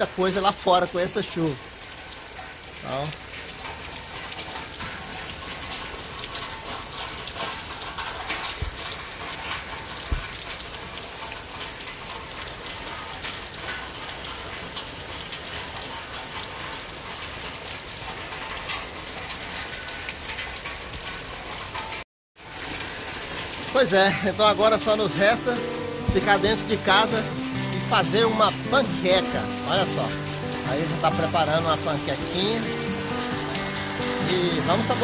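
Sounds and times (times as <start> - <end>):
rain falling on wooden deck: 0.0 - 35.0.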